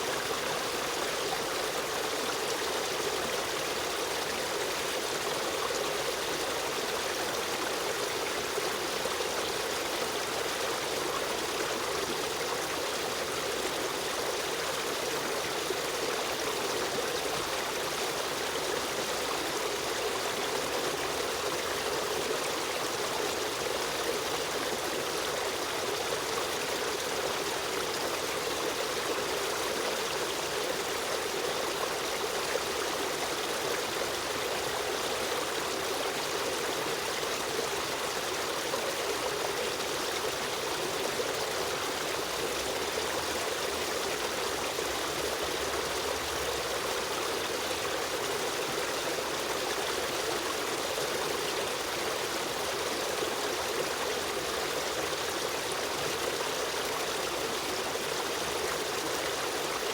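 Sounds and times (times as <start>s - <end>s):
stream water rushing and trickling: 0.0s - 59.9s.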